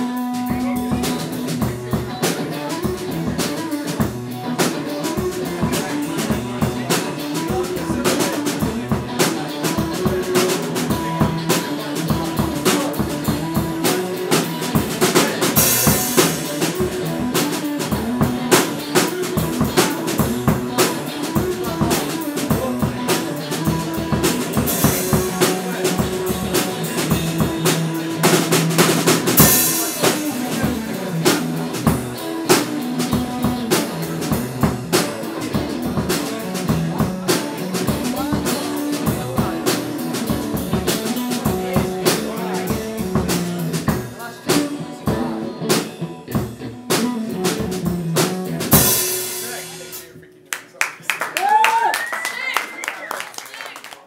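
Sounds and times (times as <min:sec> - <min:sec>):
drum kit: 0:00.0 - 0:50.4
electric guitar notes: 0:00.0 - 0:50.4
instrumental rock jam: 0:00.0 - 0:50.4.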